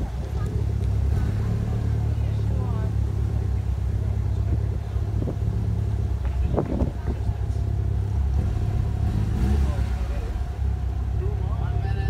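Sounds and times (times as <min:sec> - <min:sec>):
car engine running near idle: 0:00.0 - 0:12.0.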